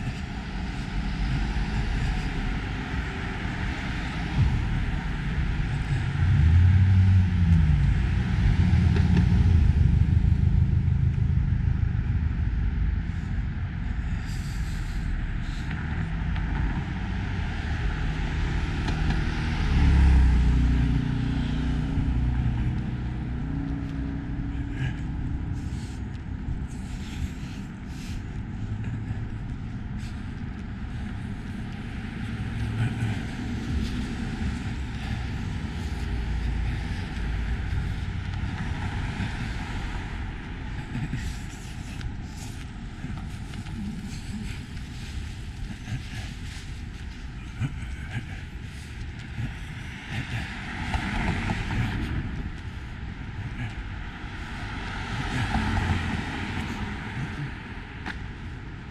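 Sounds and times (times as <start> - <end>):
cars driving past: 0.0 - 58.9.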